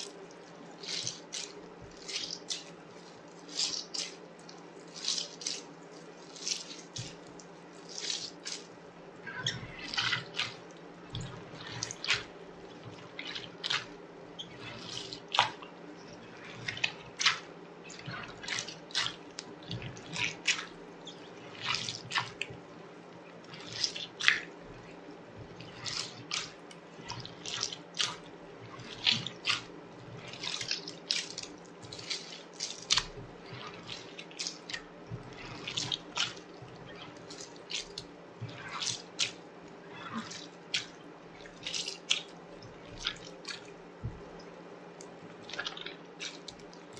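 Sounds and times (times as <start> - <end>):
hands squishing slime: 0.0 - 8.7, 9.3 - 46.9
faint steady hum: 0.0 - 46.9.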